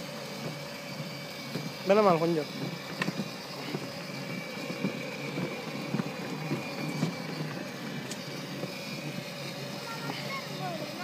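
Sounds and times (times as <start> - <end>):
electric motor whine: 0.0 - 11.0
plastic wheels rolling on paving: 0.0 - 11.0.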